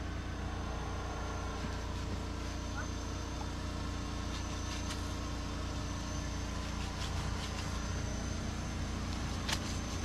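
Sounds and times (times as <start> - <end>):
engine idling hum: 0.0 - 10.0.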